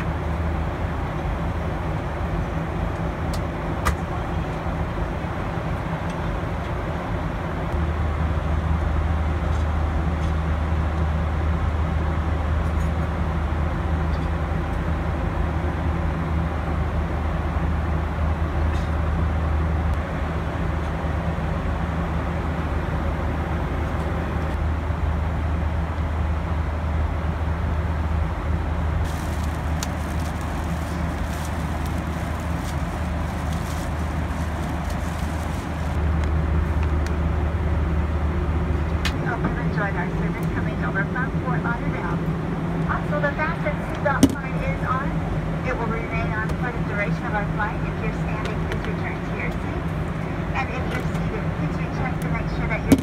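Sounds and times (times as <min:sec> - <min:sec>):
airplane cabin engine noise: 0:00.0 - 0:53.0.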